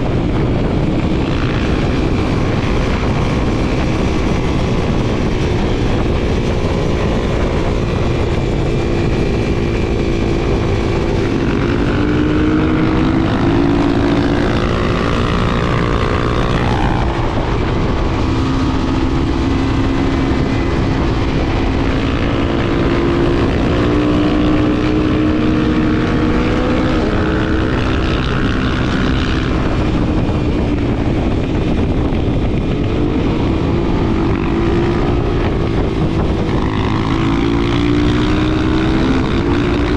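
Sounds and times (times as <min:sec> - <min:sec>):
motorcycle engine revving while riding: 0:00.0 - 0:39.9
wind rushing: 0:00.0 - 0:39.9.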